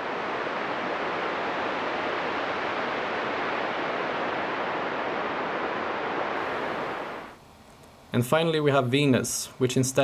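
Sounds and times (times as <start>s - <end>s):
synthesized wind hiss: 0.0s - 10.0s.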